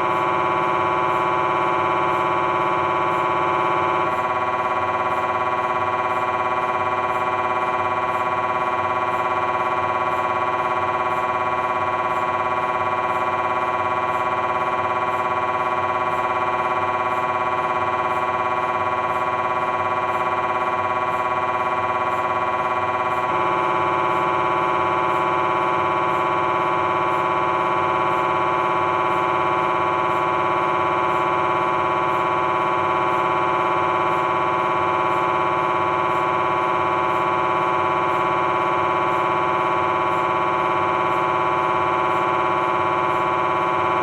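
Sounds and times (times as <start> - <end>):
mri scanner electronic buzzing: 0.0 - 44.0.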